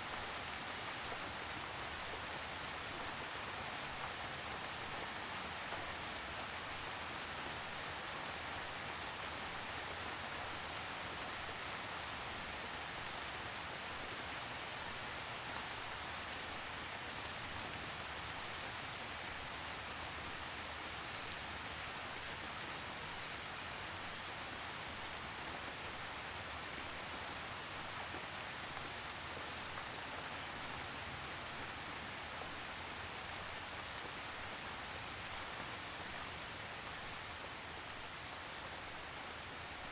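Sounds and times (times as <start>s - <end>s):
gentle rain patter: 0.0s - 39.9s.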